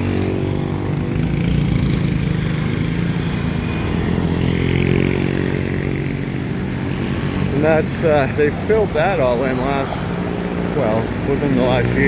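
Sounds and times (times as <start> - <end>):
background traffic noise: 0.0 - 12.0
vehicle engine running: 0.0 - 12.0.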